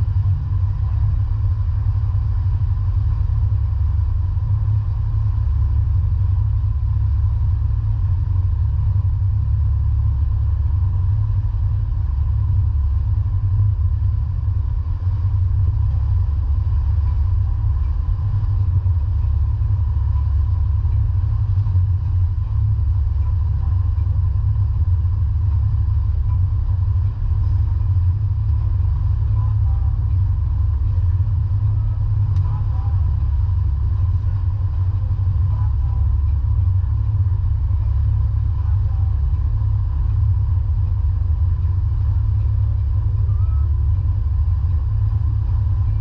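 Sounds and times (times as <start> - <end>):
faint steady whine: 0.0 - 46.0
vehicle engine rumble: 0.0 - 46.0.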